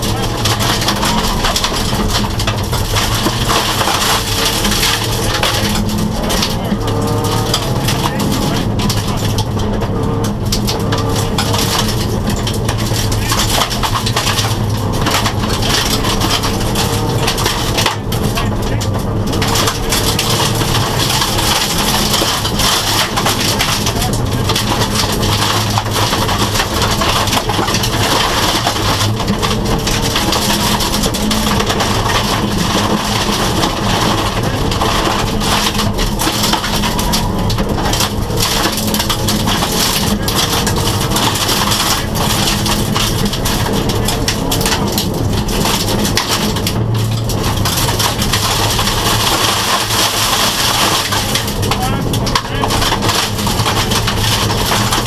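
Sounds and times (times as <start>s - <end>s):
car engine running hard: 0.0s - 55.0s
gravel crunching and rattling: 0.0s - 55.0s.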